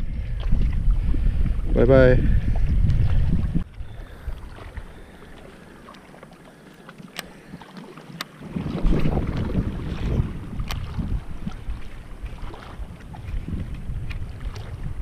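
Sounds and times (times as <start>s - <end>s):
wind buffeting microphone: 0.0s - 5.7s, 8.3s - 15.0s
faint water noise: 0.0s - 15.0s.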